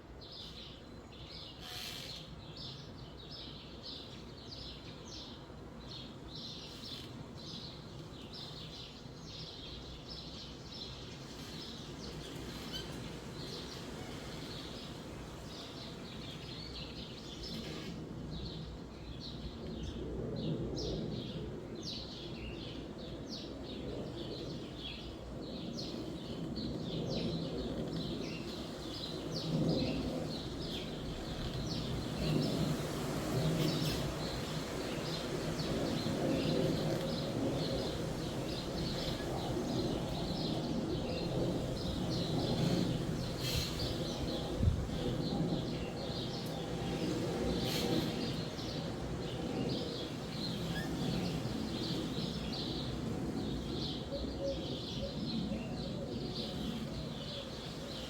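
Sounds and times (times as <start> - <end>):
wind through trees: 0.0 - 58.0
sparrows chirping: 0.2 - 58.0.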